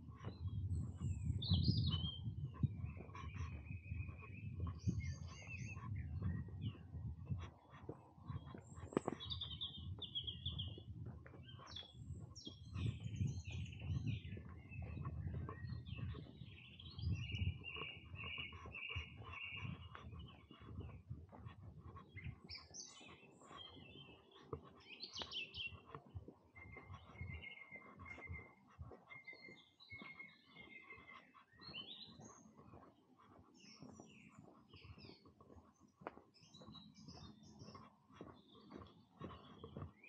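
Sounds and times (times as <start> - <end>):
footsteps on walking path: 0.0 - 40.0
songbirds singing: 0.0 - 40.0.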